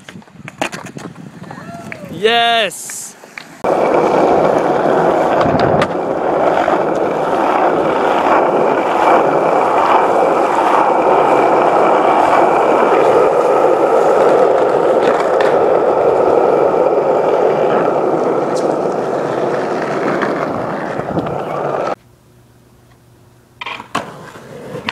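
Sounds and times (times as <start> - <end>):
skateboard wheels rolling on asphalt: 0.0 - 22.0, 23.6 - 24.9.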